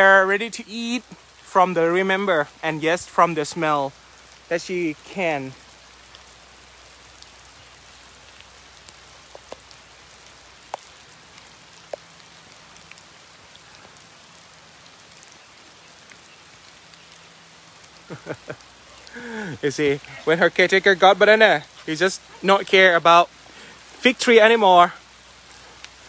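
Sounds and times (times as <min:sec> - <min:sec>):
light rain hissing: 0:00.0 - 0:26.0
raindrops ticking nearby: 0:00.0 - 0:26.0.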